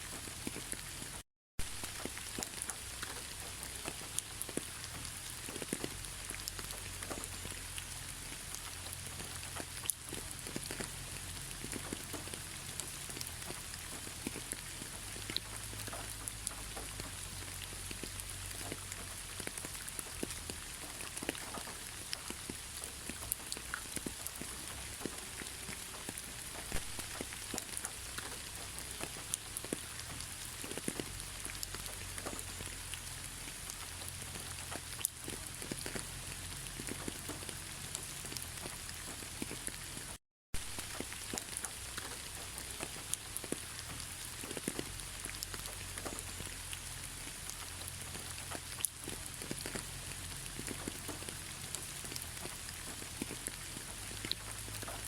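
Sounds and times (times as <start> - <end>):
raindrops ticking: 0.0 - 55.0
steady rainfall: 0.0 - 55.0.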